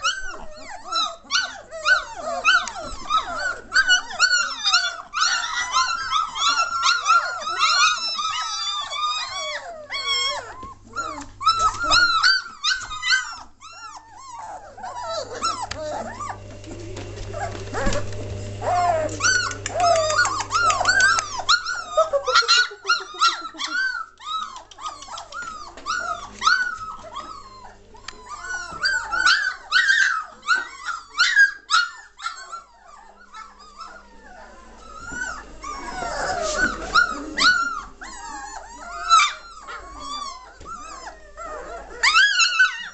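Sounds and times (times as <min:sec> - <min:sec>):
puppies crying and whimpering: 0:00.0 - 0:42.9.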